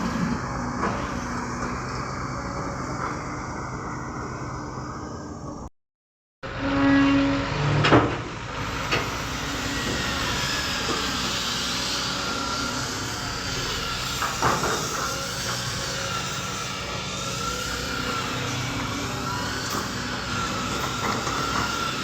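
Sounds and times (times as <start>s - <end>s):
excavator engine with hydraulic whine: 0.0s - 5.7s, 6.4s - 22.0s.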